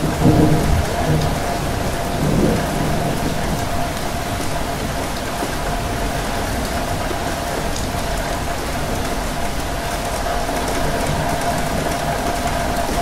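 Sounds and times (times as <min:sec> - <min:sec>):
rain drop ticks: 0:00.0 - 0:13.0
steady rain: 0:00.0 - 0:13.0.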